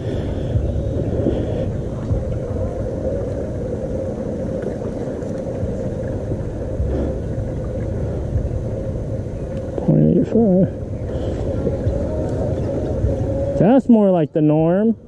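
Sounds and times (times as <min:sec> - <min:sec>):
constant hum: 0:00.0 - 0:15.0
low rumble: 0:00.0 - 0:15.0.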